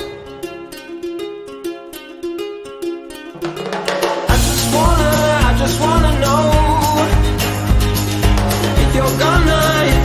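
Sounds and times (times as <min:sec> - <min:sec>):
ukulele picking notes: 0:00.0 - 0:10.0.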